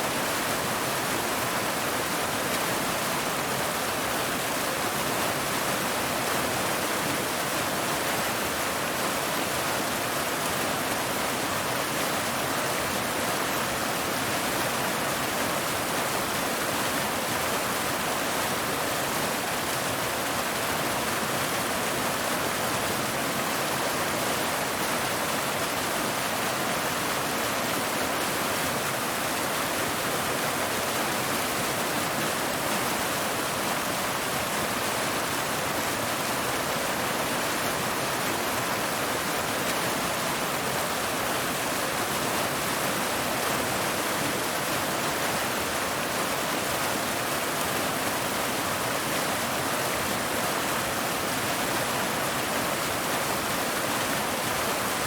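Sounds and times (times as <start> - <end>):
waterfall splashing over rocks: 0.0 - 55.0.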